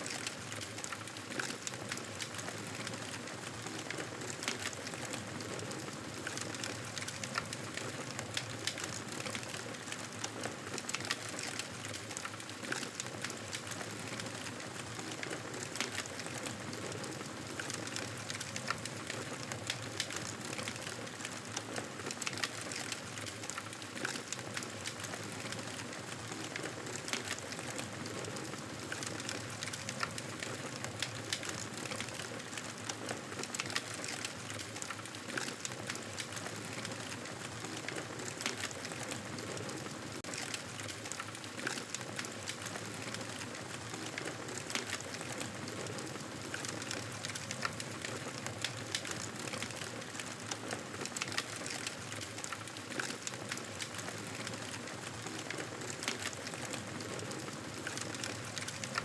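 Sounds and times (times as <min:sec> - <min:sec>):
fire crackles and pops: 0:00.0 - 0:59.0.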